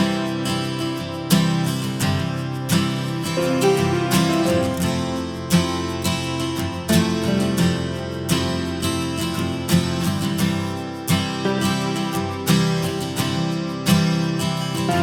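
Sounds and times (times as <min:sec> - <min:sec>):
strummed acoustic guitar music: 0:00.0 - 0:15.0.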